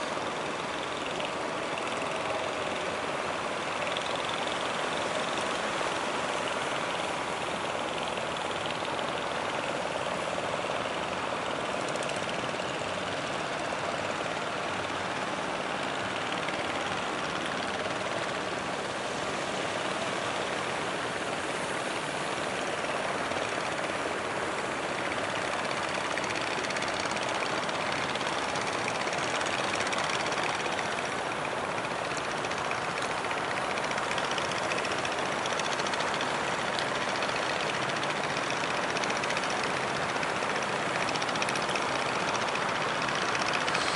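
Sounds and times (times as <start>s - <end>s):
boat engines droning: 0.0s - 43.9s.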